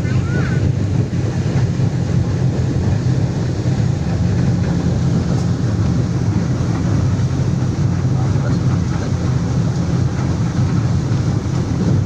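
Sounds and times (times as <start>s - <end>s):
hull rushing through water: 0.0s - 12.0s
speedboat engines droning: 0.0s - 12.0s.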